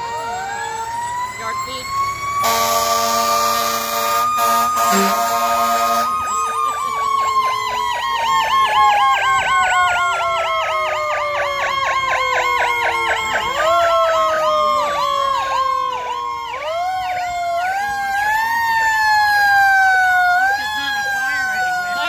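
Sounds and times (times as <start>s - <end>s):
fast sweeping electronic siren: 0.0s - 22.0s
slow wailing siren: 0.0s - 22.0s.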